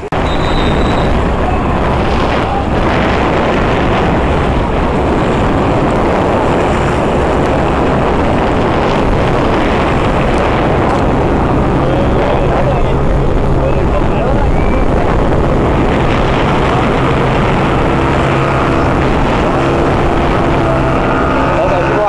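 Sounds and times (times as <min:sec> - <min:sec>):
boat engine drone: 0:00.0 - 0:22.0
wind and water rushing: 0:00.0 - 0:22.0.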